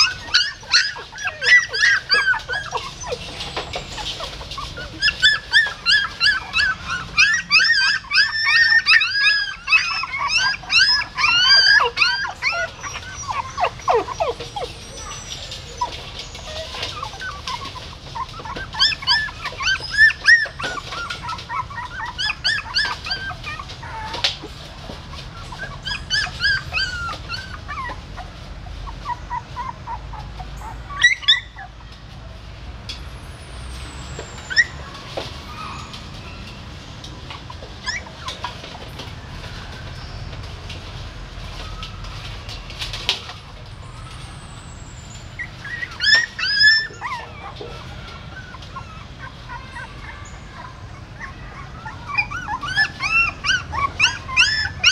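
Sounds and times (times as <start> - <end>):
puppies whimpering and squealing: 0.0 - 32.1, 33.5 - 54.9.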